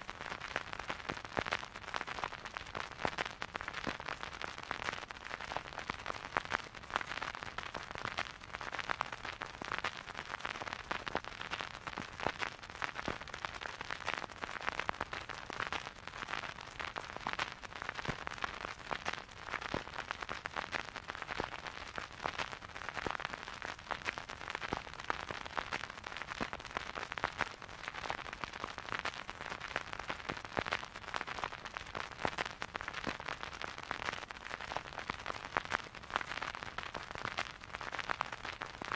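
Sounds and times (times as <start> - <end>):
vinyl crackles and pops: 0.0 - 38.9
vinyl record surface hiss: 0.0 - 38.9.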